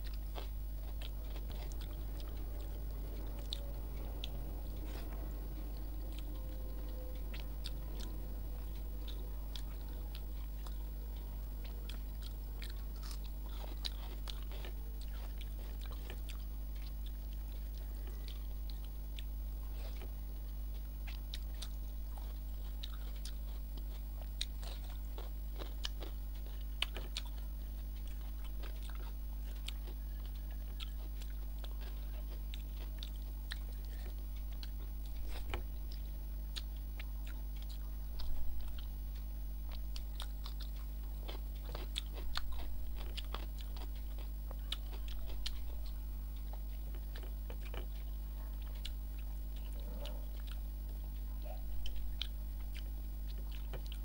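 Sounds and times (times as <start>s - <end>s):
low electrical hum: 0.0s - 54.0s
person chewing: 0.0s - 54.0s.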